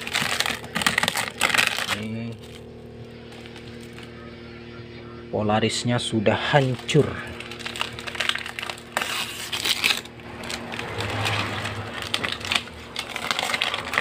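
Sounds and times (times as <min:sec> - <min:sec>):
plastic film crinkling: 0:00.0 - 0:04.2, 0:06.2 - 0:14.0.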